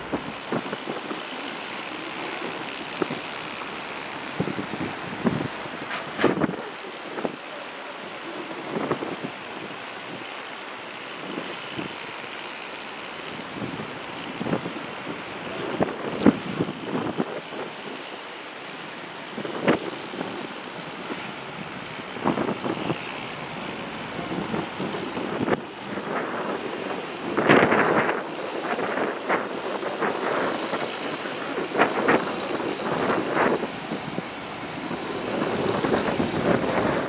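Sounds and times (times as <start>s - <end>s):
wind buffeting microphone: 0.0s - 12.6s, 13.3s - 37.0s
steady background noise: 0.0s - 37.0s.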